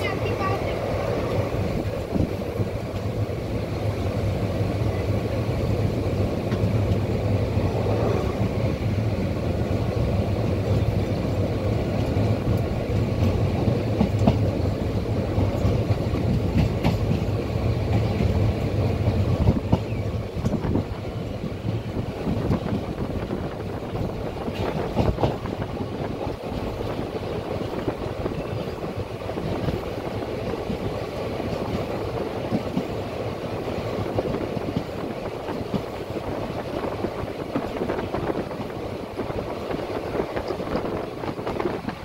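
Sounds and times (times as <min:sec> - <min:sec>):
rail joint clicks: 0:00.0 - 0:42.0
train wheels rumbling on rails: 0:00.0 - 0:42.0.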